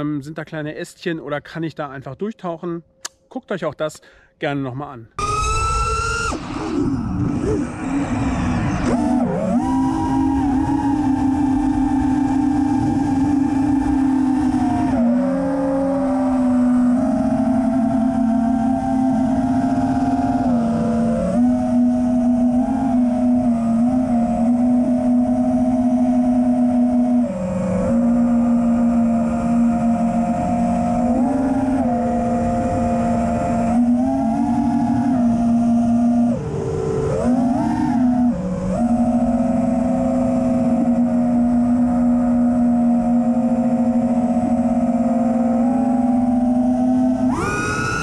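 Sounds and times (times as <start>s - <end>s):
drone motors whining: 5.2s - 48.0s.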